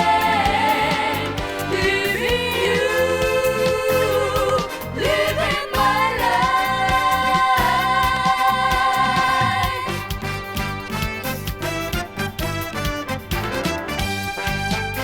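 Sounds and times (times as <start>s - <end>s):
pop song band beat: 0.0s - 15.0s.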